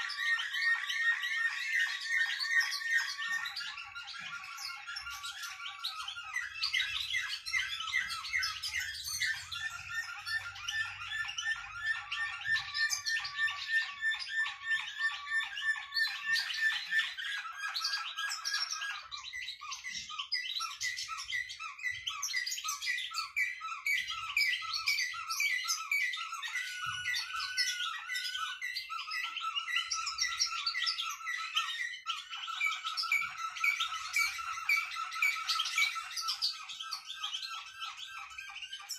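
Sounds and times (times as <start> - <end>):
caged songbirds singing: 0.0 - 38.9.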